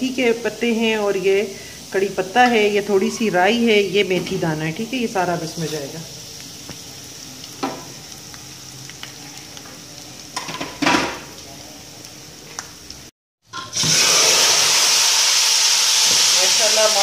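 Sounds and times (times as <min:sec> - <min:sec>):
loud oil sizzle: 0:00.0 - 0:17.0
spices frying in hot oil: 0:00.0 - 0:17.0.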